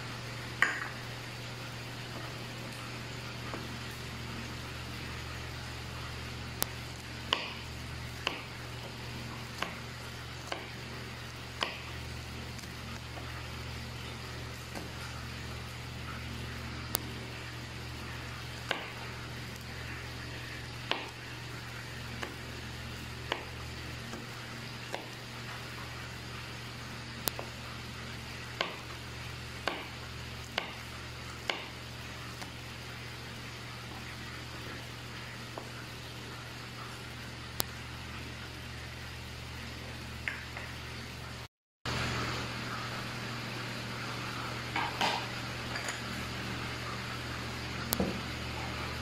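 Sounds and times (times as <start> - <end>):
steady low hum: 0.0 - 49.0
chicken frying in oil: 0.1 - 49.0.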